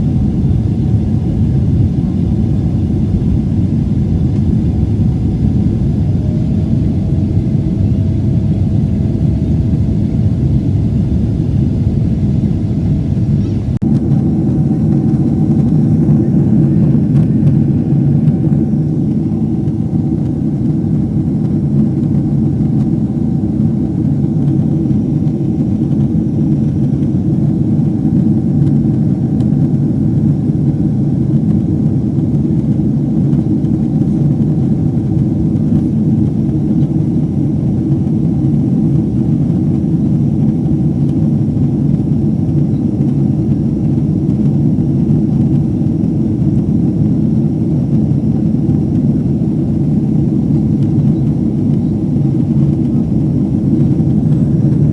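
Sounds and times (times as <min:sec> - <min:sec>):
faint steady whine: 0:00.0 - 0:54.9
jet engine cabin rumble: 0:00.0 - 0:54.9.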